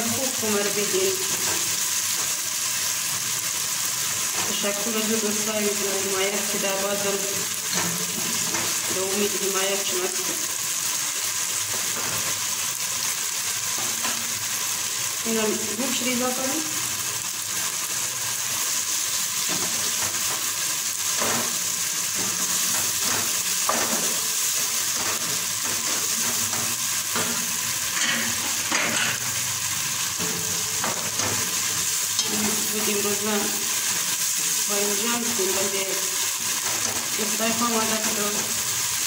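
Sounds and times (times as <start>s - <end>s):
vegetables sizzling in oil: 0.0s - 39.0s.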